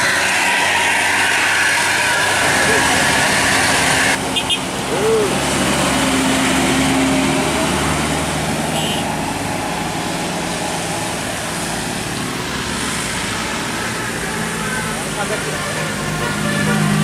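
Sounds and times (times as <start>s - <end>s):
large vehicle engine hum: 0.0s - 17.0s
road traffic noise: 0.0s - 17.0s.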